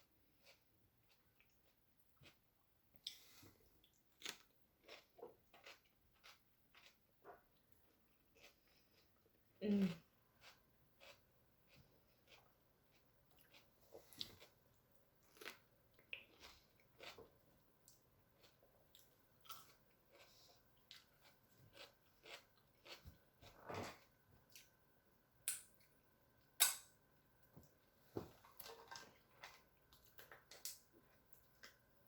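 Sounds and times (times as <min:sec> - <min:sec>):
quiet chewing: 0:00.4 - 0:24.8, 0:27.6 - 0:32.0.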